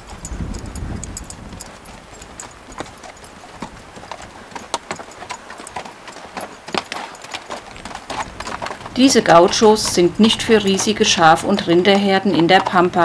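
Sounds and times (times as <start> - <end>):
horse hooves clopping: 0.0 - 13.0.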